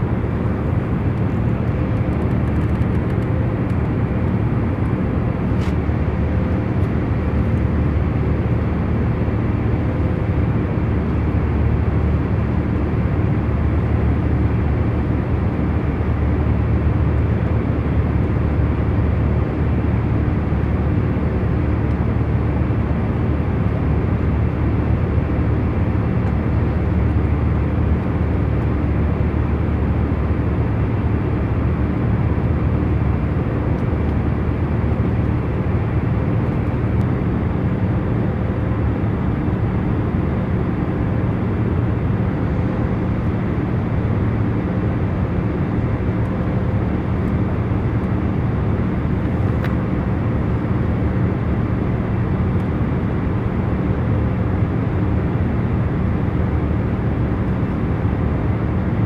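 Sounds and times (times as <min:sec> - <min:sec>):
airliner engines and airflow hum: 0:00.0 - 0:59.0.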